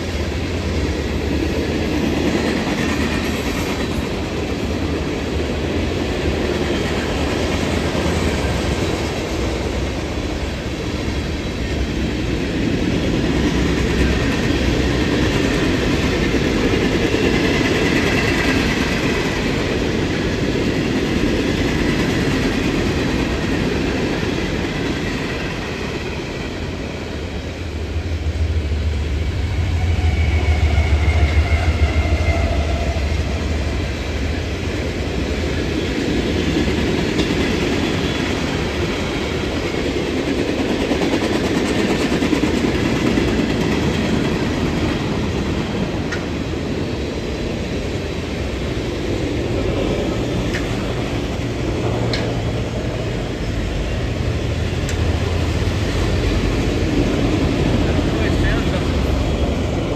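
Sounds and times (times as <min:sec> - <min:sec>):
deep train rumble: 0:00.0 - 0:59.9.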